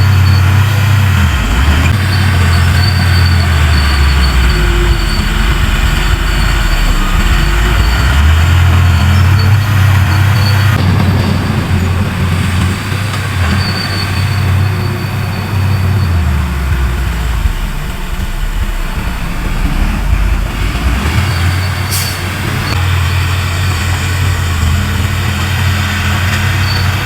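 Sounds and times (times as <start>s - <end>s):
bulldozer diesel engine running: 0.0s - 27.0s
steel tracks squealing and clanking: 0.0s - 27.0s.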